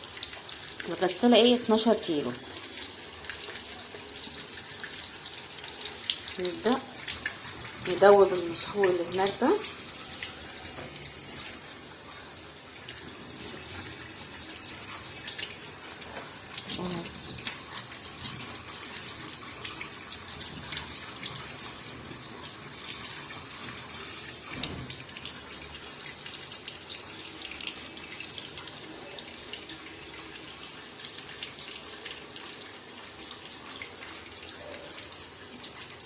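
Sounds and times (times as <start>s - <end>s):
water running into washing machine tub: 0.0s - 36.0s.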